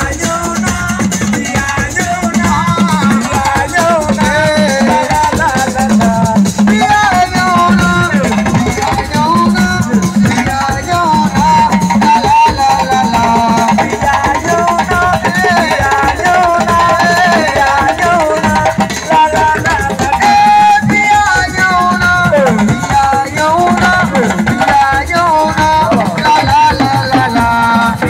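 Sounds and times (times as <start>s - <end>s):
drums and shakers rhythm: 0.0s - 28.0s.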